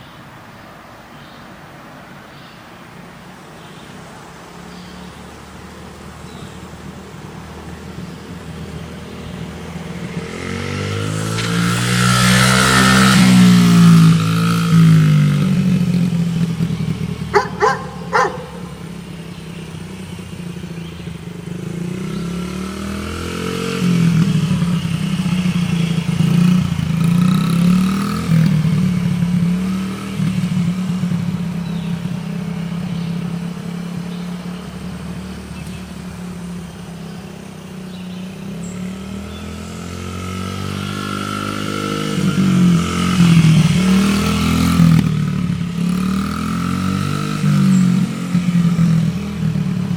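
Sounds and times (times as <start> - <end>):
dirt bike engine revving: 6.2 - 49.9.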